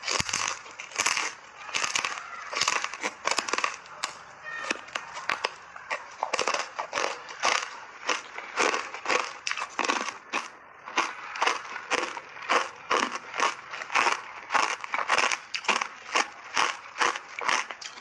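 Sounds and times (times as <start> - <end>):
ice being chewed: 0.0 - 18.0.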